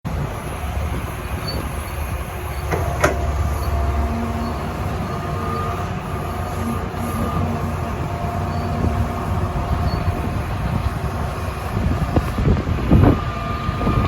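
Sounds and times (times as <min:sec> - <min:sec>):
excavator engine rumble: 0:00.1 - 0:14.0.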